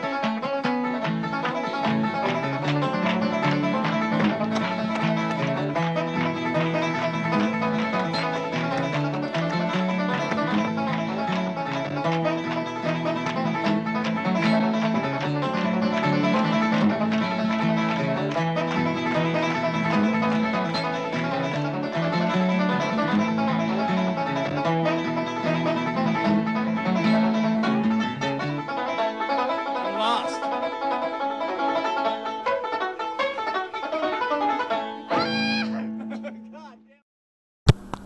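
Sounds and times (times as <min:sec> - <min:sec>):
bluegrass music with banjo: 0:00.0 - 0:36.8.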